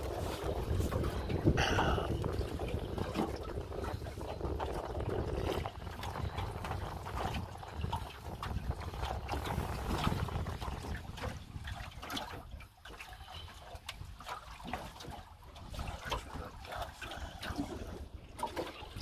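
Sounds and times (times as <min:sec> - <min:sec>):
water lapping against boat hull: 0:00.0 - 0:19.0
wind rumble on microphone: 0:00.0 - 0:19.0.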